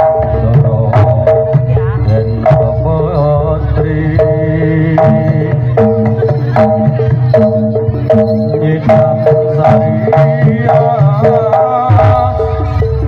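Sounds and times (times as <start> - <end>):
hand drum strokes: 0.0 - 13.0
held melodic notes: 0.0 - 13.0.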